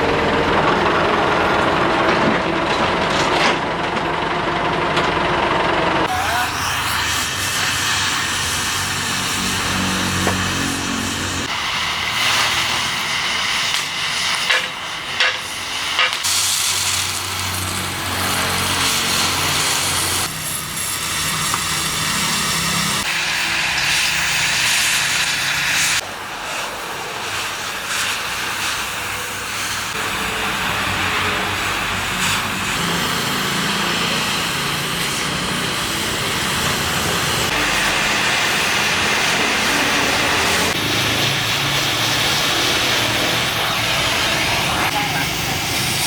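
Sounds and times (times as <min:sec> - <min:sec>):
loud machinery noise: 0:00.0 - 0:46.0.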